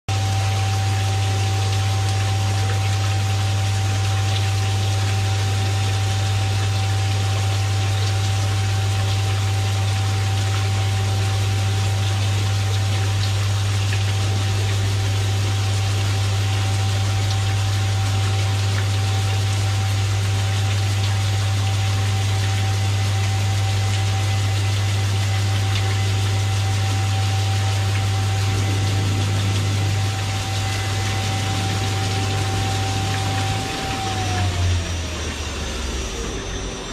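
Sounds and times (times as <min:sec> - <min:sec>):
grinding machine humming: 0:00.1 - 0:36.9
coolant spraying hiss: 0:00.2 - 0:36.5.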